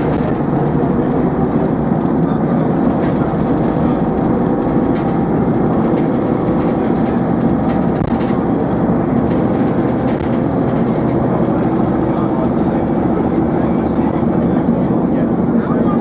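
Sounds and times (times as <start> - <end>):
bus diesel engine running: 0.0 - 16.0
bus road and body noise: 0.0 - 16.0.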